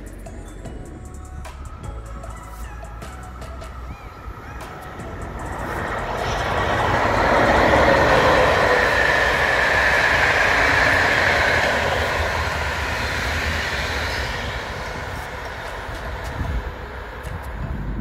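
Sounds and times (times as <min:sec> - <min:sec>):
train passing on rails: 0:00.0 - 0:18.0.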